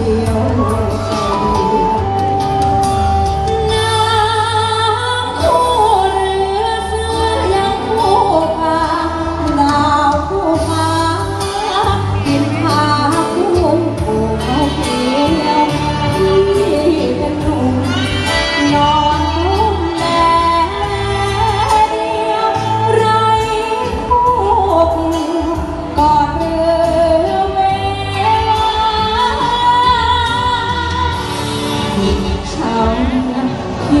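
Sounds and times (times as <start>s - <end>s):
backing band with bass beat: 0.0s - 34.0s
person singing amplified: 0.0s - 34.0s.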